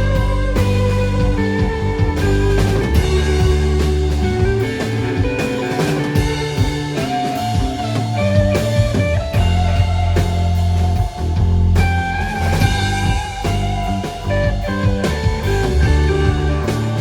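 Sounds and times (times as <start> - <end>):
bass guitar: 0.0 - 17.0
drum kit: 0.0 - 17.0
electric guitar lead: 0.0 - 17.0.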